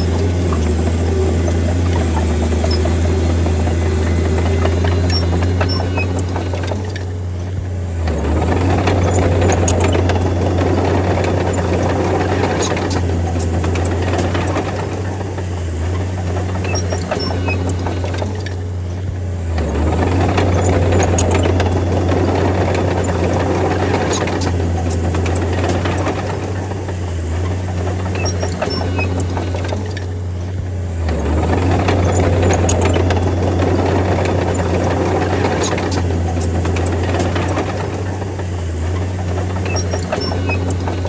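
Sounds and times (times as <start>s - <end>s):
bulldozer diesel engine running: 0.0s - 41.0s
metallic clanking of tracks: 0.0s - 41.0s.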